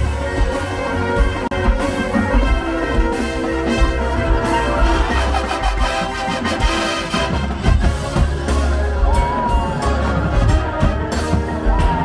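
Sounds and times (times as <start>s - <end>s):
drum and bugle corps playing: 0.0s - 12.0s.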